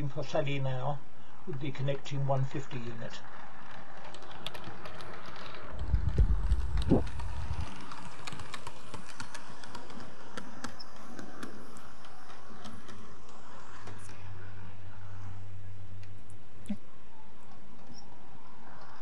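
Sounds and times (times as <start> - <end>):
model train wheels clicking: 0.0 - 16.6, 17.3 - 19.0.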